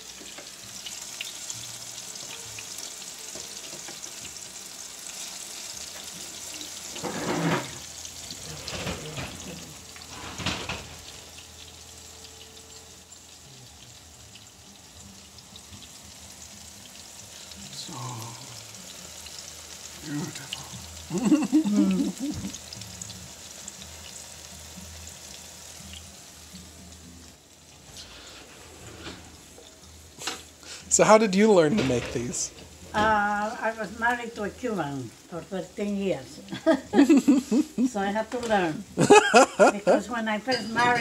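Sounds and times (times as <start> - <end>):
plantain sizzling in oil: 0.0 - 41.0.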